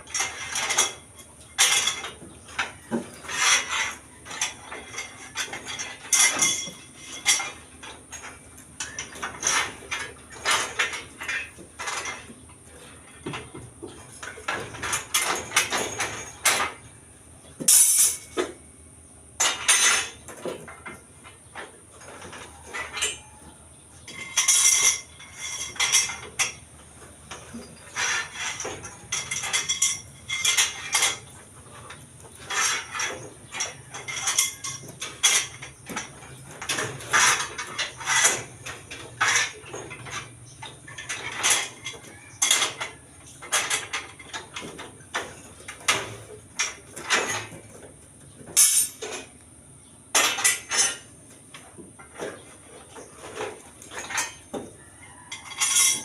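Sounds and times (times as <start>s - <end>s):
steel bar clinking and clanking: 0.0s - 18.6s, 19.4s - 49.4s, 50.1s - 56.0s.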